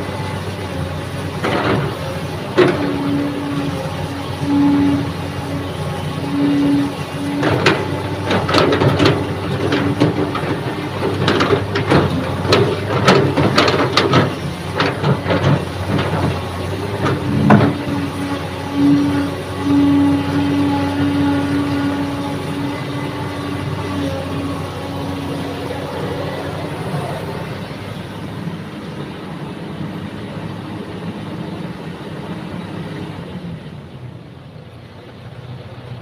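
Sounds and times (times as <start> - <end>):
excavator engine under load: 0.0 - 36.0.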